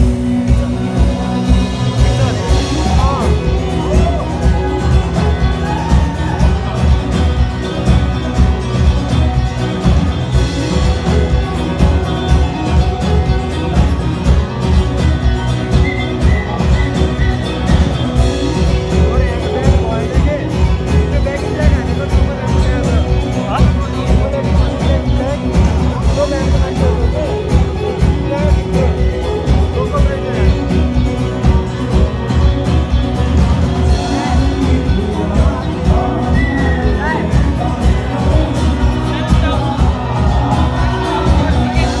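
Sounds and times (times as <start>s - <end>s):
live rock band: 0.0s - 42.0s.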